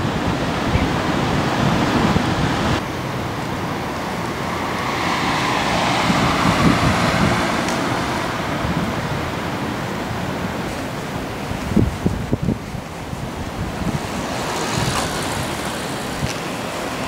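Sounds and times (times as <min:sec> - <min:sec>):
rushing outdoor noise: 0:00.0 - 0:17.0
wind on microphone: 0:00.0 - 0:17.0.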